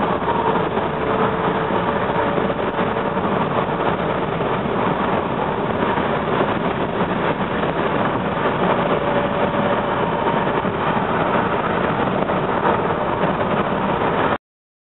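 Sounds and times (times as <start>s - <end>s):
train wheels rushing on rail: 0.0s - 14.4s.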